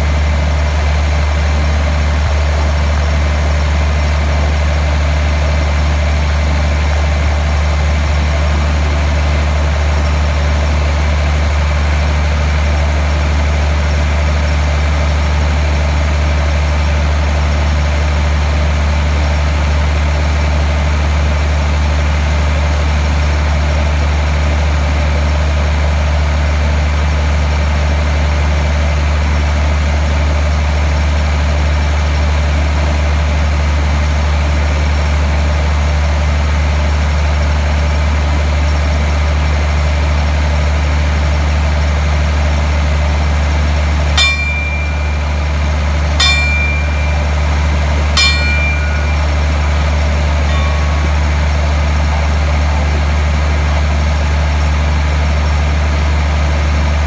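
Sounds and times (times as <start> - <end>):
diesel train engine idling: 0.0 - 57.0.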